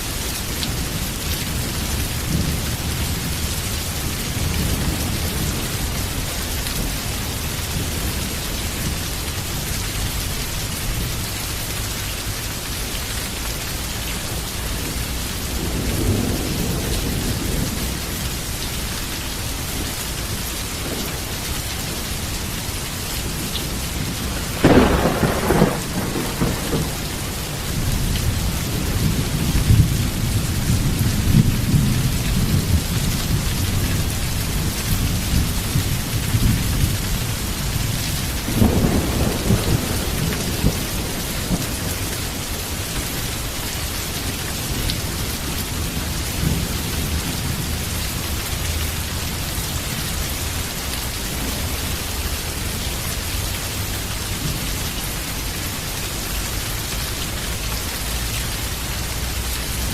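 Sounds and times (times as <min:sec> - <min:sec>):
heavy rain falling: 0:00.0 - 0:59.9
thunder clap and rumble: 0:00.4 - 0:09.0, 0:14.1 - 0:54.9.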